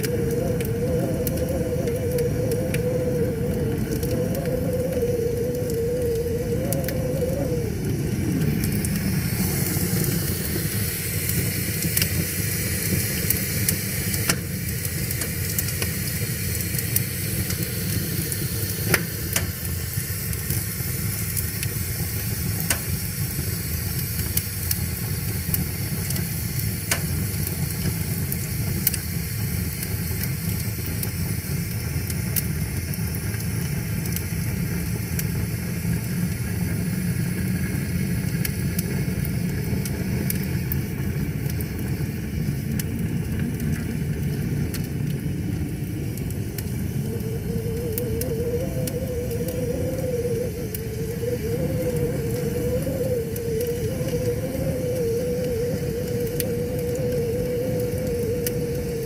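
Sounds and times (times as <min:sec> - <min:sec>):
fire crackling and popping: 0:00.0 - 0:59.0
fire rumbling and hissing: 0:00.0 - 0:59.0.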